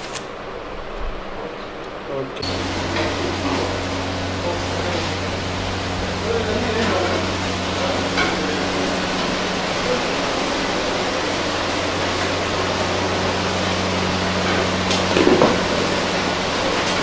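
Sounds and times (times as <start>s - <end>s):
exhaust fans rushing: 0.0s - 17.0s
low even hum: 0.5s - 17.0s.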